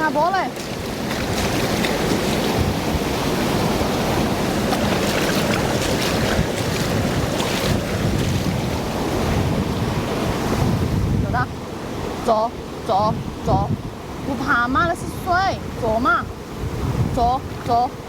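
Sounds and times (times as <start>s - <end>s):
rushing water: 0.0s - 18.0s
wind buffeting microphone: 0.0s - 18.0s.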